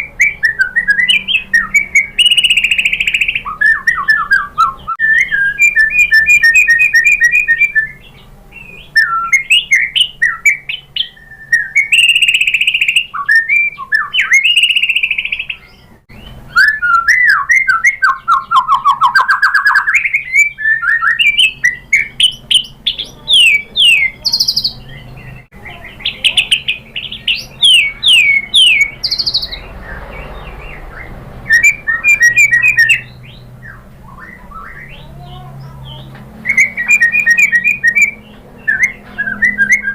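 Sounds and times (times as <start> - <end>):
songbird singing trilled phrases: 0.0 - 39.9.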